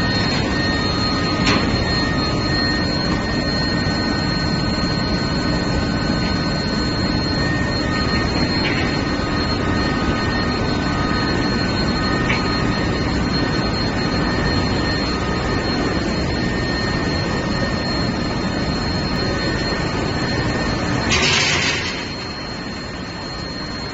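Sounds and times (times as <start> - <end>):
high-pitched machine whines: 0.0 - 23.9
loud machinery noise: 0.0 - 23.9.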